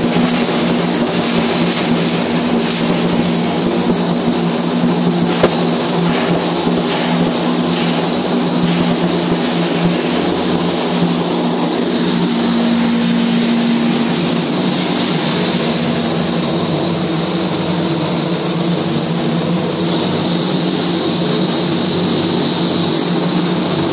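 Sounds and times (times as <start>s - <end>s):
high whine: 0.0s - 23.9s
welding arc sizzling: 0.0s - 23.9s
welding machine roar: 0.0s - 23.9s.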